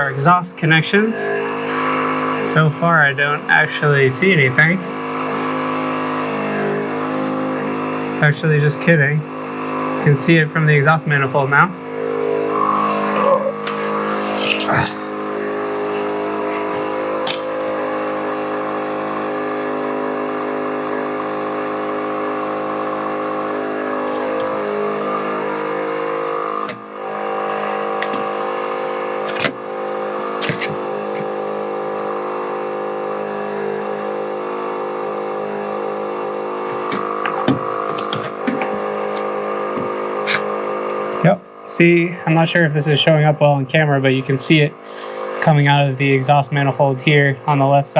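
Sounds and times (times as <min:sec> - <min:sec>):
electric air compressor running: 0:00.0 - 0:47.9.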